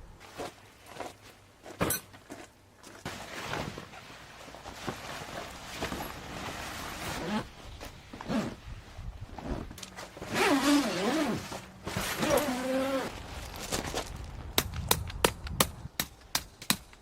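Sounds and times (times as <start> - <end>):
rustling: 0.2 - 14.5.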